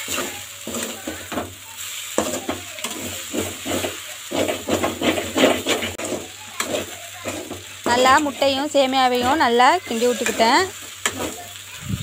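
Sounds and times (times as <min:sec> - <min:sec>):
metal ladle scraping a pan: 0:00.0 - 0:11.5
frying sizzle: 0:00.0 - 0:12.0.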